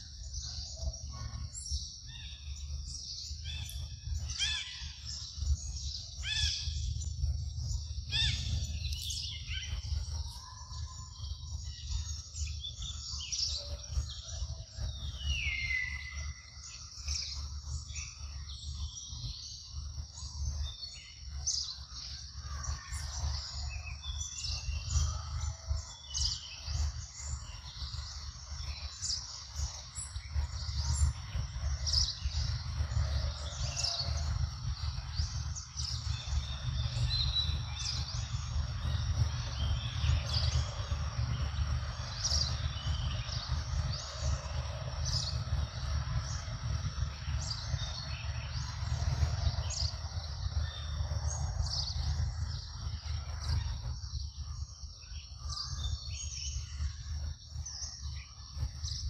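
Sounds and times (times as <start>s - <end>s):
bird chirps and calls: 0.0s - 59.0s
constant low rumble: 0.0s - 59.0s.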